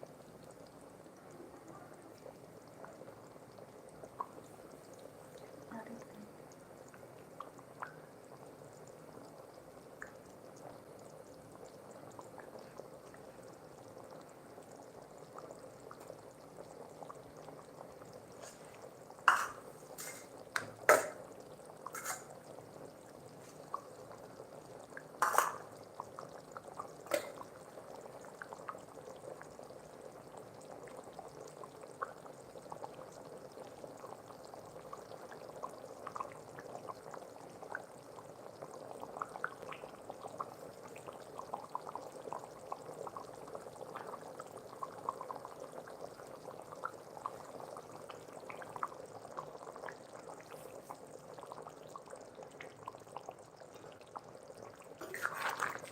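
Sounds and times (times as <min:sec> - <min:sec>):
curry bubbling in a pot: 0:00.0 - 0:55.9
small crackles: 0:00.4 - 0:55.9.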